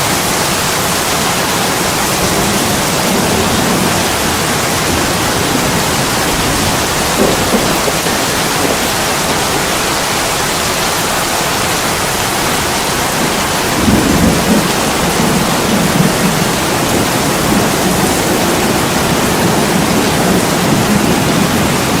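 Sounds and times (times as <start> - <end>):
heavy rain on window: 0.0 - 22.0.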